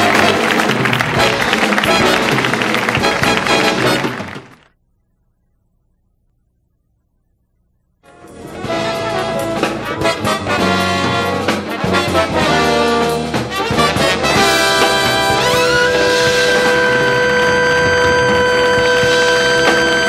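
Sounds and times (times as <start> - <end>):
brass section with trumpets: 0.0 - 4.6, 8.1 - 20.0.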